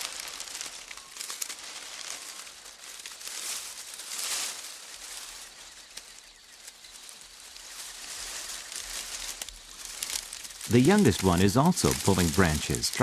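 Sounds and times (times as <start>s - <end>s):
tree branches rustling: 0.0s - 13.0s.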